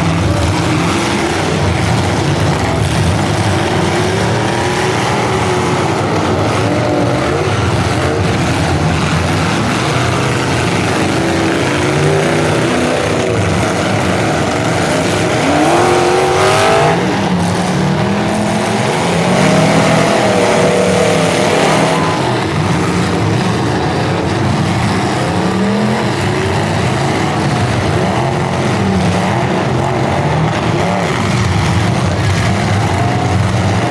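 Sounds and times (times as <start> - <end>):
car engines revving hard: 0.0 - 33.9.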